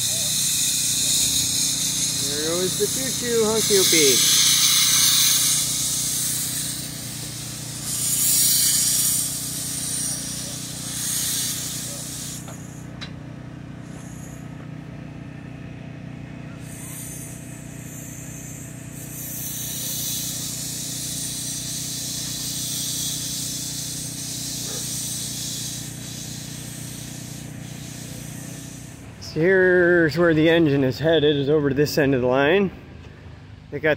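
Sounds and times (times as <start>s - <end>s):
steam locomotive hissing: 0.0s - 13.0s, 13.8s - 14.5s, 16.6s - 30.7s
tractor engine idling: 0.0s - 33.9s.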